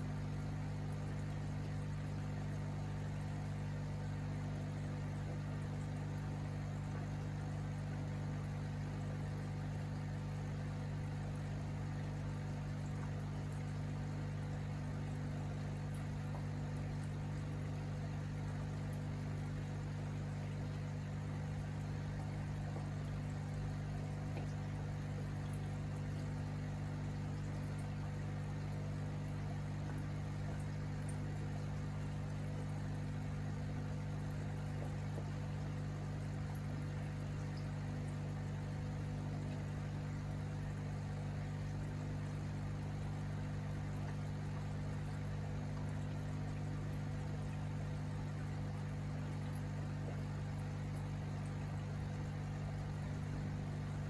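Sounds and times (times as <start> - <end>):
aquarium air pump humming: 0.0 - 54.0.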